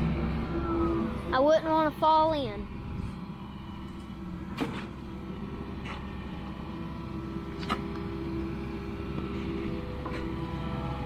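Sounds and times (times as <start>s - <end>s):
excavator diesel engine running: 0.0s - 11.0s
hydraulic whine: 0.0s - 11.0s.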